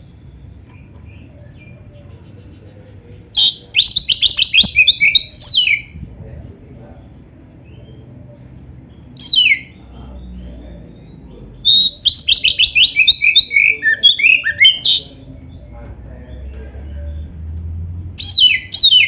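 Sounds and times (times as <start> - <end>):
songbird singing varied notes: 0.0 - 6.0, 7.0 - 17.4, 18.2 - 19.0.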